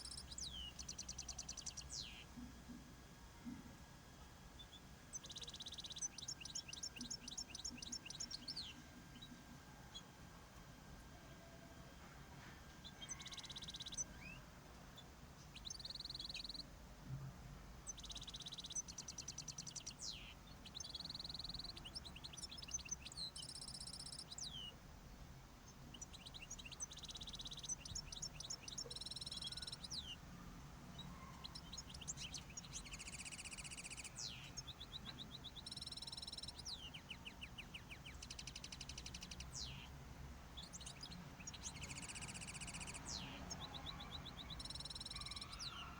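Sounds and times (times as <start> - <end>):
cage birds singing: 0.0 - 45.9
faint low hum: 0.0 - 45.9.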